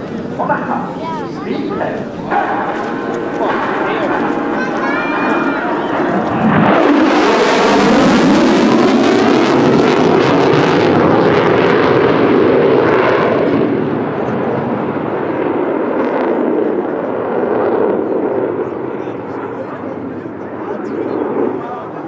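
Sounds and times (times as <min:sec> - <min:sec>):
jet roar with crackle: 0:00.0 - 0:21.8.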